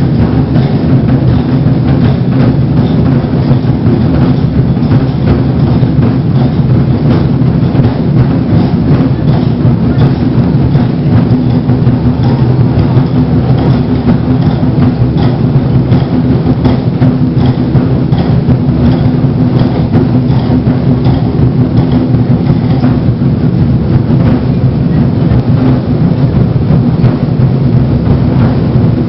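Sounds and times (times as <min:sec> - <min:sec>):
large drums playing: 0:00.0 - 0:29.0.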